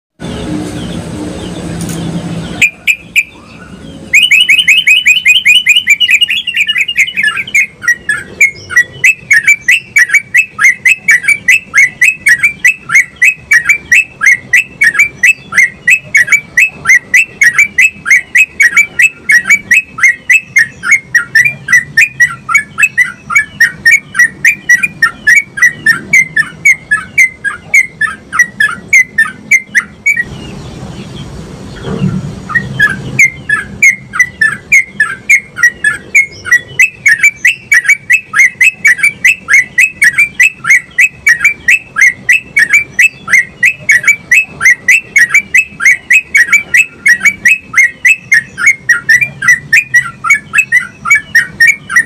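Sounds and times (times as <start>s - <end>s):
bird singing: 0.2s - 52.0s.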